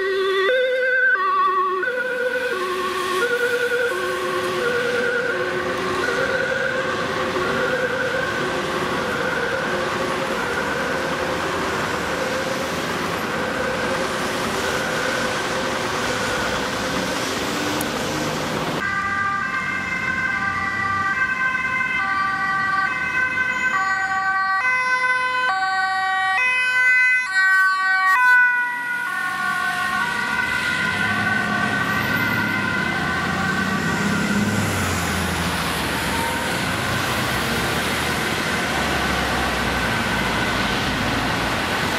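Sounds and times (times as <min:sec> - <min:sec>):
second ambulance siren: 0:00.0 - 0:17.8, 0:18.8 - 0:41.9
ambulance two-tone siren: 0:00.0 - 0:41.9.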